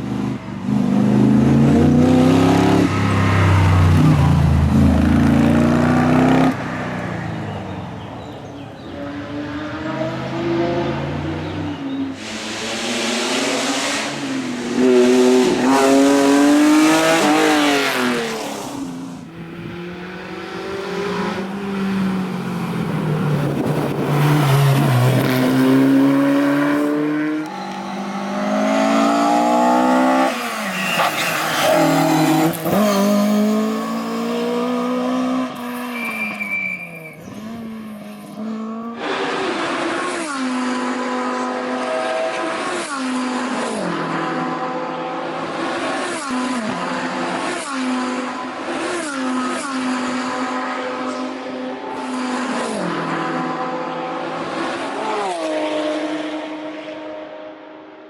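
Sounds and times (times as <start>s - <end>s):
racing car engines revving: 0.0s - 57.8s.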